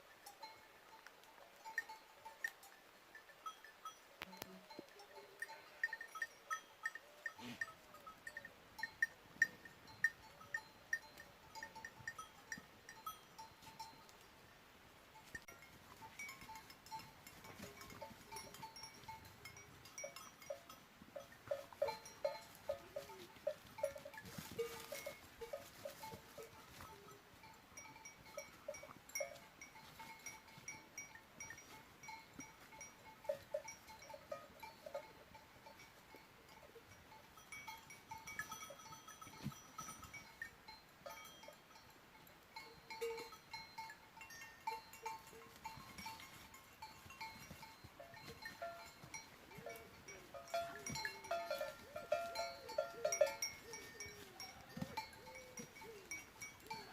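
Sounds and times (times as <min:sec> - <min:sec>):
small metal bells clanking: 0:00.0 - 0:56.9.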